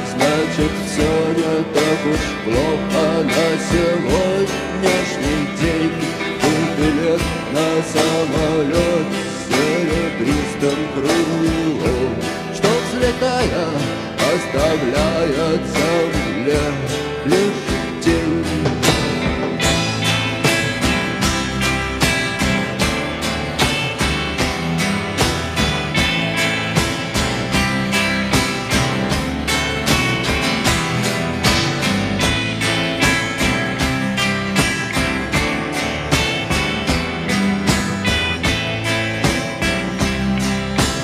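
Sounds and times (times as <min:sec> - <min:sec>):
rock guitars: 0:00.0 - 0:41.0
steady drum beat: 0:00.0 - 0:41.0.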